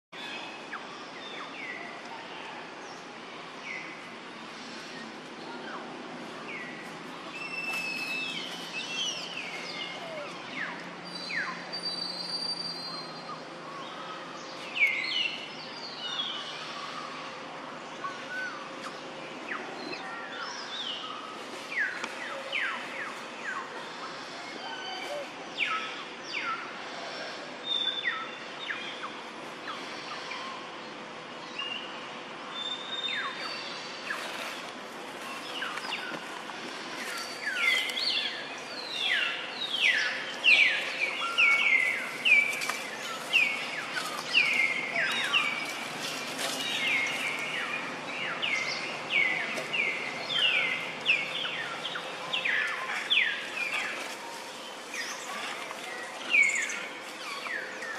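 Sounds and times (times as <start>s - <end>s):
faint constant hum: 0.2s - 57.9s.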